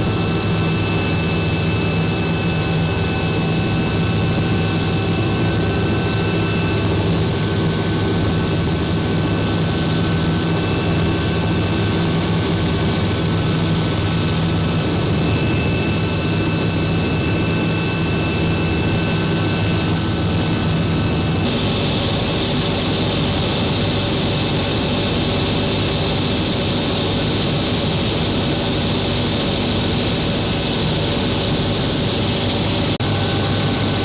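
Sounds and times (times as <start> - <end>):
helicopter drone: 0.0 - 34.0
high whines: 0.0 - 34.0.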